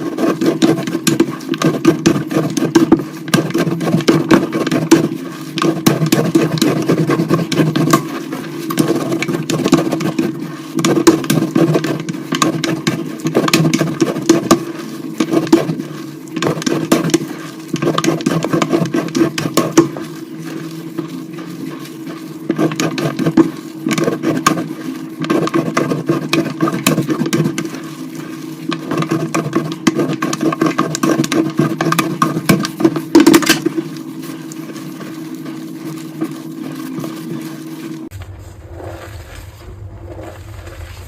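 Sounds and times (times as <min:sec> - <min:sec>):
chalk crunching and crackling: 0:00.0 - 0:41.0
low steady hum: 0:00.0 - 0:41.0.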